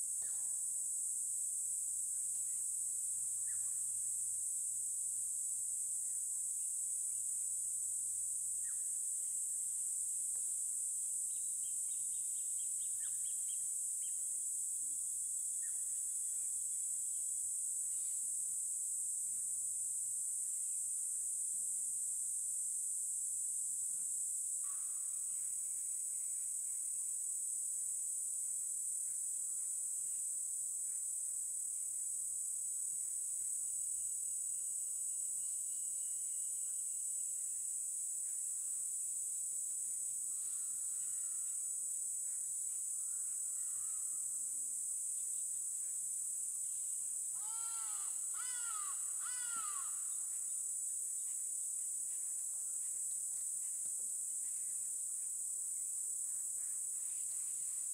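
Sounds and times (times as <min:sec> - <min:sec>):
insect chorus drone: 0:00.0 - 0:57.9.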